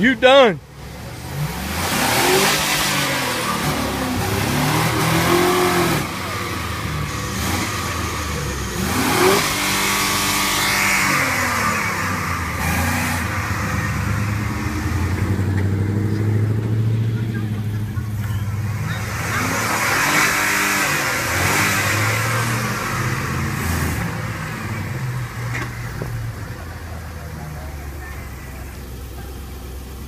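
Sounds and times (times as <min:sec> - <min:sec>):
suv engine revving: 0:00.0 - 0:30.0.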